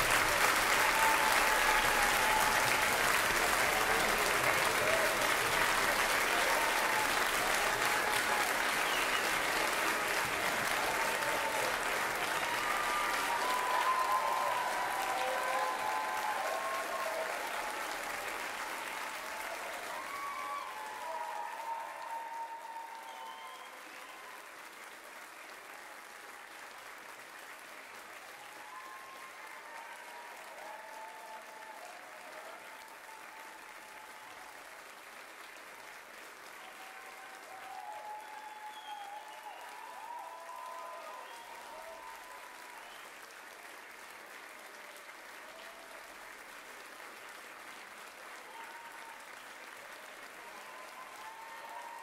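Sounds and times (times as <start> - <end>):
large audience applauding: 0.0 - 52.0
voices and cheers: 0.0 - 52.0.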